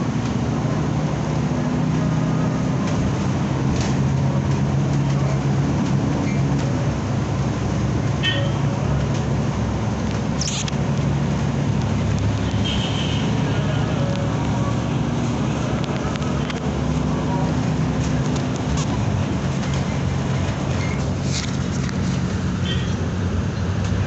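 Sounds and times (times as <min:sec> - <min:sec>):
bus engine hum: 0:00.0 - 0:24.0
road noise: 0:00.0 - 0:24.0.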